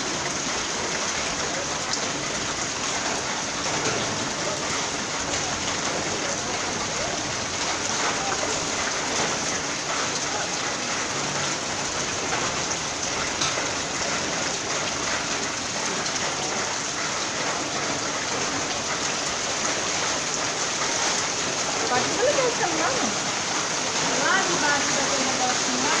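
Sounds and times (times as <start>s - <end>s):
heavy rain on hard surfaces: 0.0s - 26.0s.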